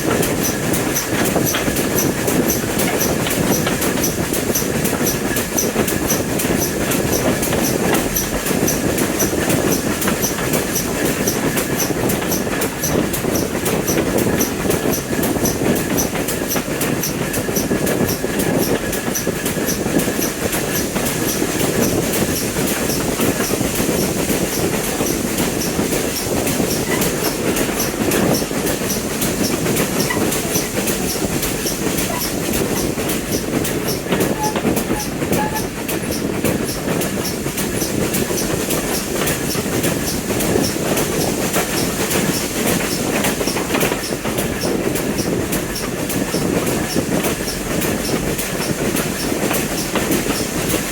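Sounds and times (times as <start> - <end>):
train rumble: 0.0 - 50.9
train wheels clicking over rail joints: 0.0 - 50.9.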